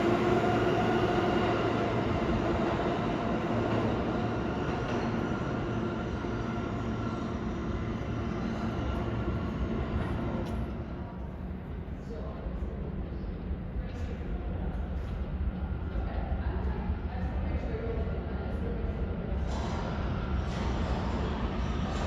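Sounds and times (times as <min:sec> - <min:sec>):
rumble of train wheels: 0:00.0 - 0:22.0
subway train motor hum: 0:00.0 - 0:22.0.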